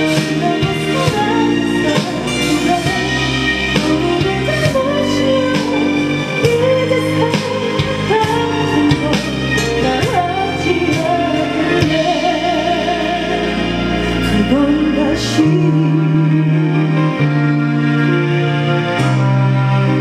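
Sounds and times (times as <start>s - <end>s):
woman singing into a microphone: 0.0s - 17.5s
instrumental accompaniment: 0.0s - 20.0s.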